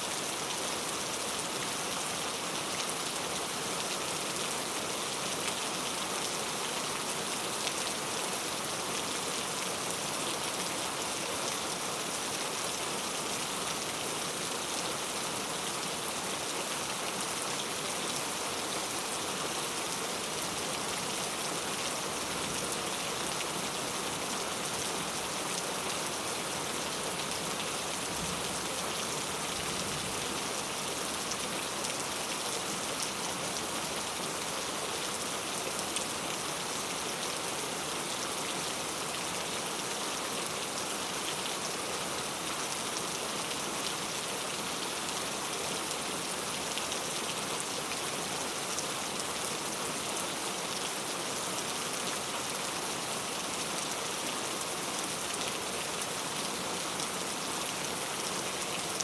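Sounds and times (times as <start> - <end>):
heavy rain on street: 0.0 - 59.0.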